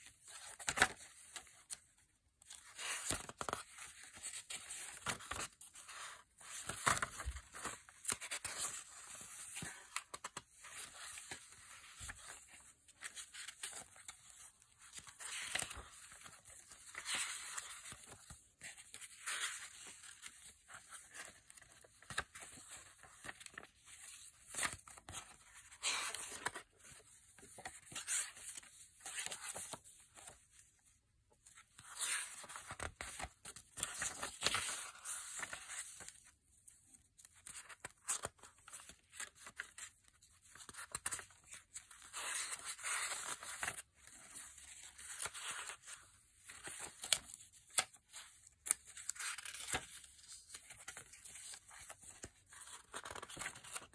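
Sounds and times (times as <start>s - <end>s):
paper pages turning: 0.2s - 30.6s, 31.4s - 53.9s.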